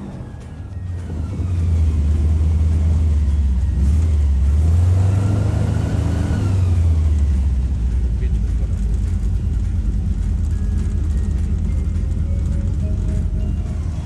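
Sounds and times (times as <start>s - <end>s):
airboat engine deep drone: 0.0s - 14.0s.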